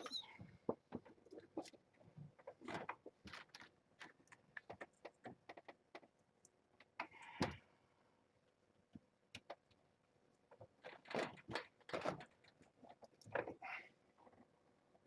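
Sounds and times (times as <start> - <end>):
kittens tapping and scratching: 0.0 - 7.6, 8.9 - 14.6.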